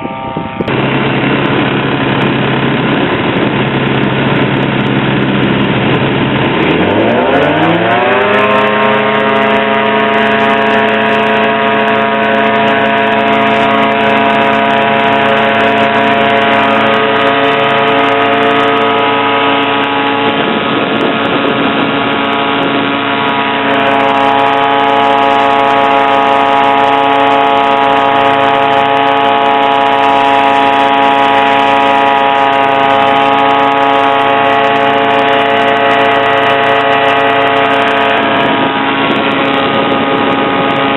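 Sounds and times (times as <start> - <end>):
ultralight engine and propeller: 0.0 - 40.9.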